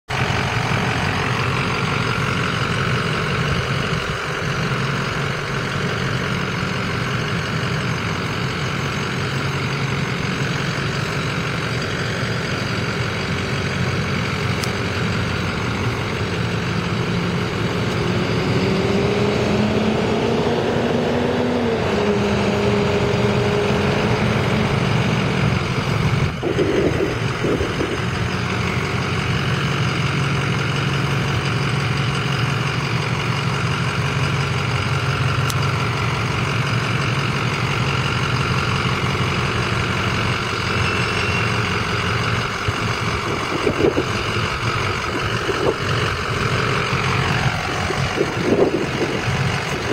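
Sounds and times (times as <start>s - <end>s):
diesel engine idling: 0.1s - 49.9s.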